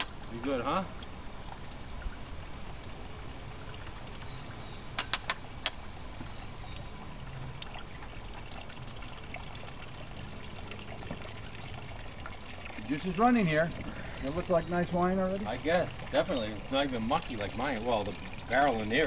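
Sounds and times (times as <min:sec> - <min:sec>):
juice trickling into tub: 0:00.0 - 0:19.0.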